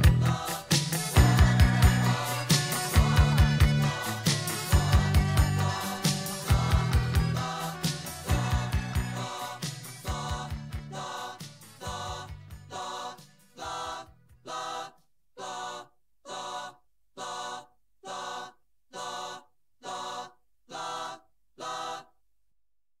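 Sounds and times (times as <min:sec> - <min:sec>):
group of voices singing a chord: 0:00.0 - 0:22.2.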